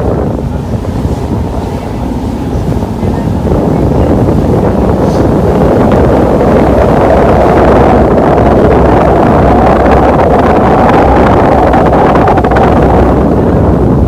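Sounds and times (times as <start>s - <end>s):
boat engines droning: 0.0s - 14.0s
water rushing past hull: 0.0s - 14.0s
wind buffeting microphone: 0.0s - 14.0s.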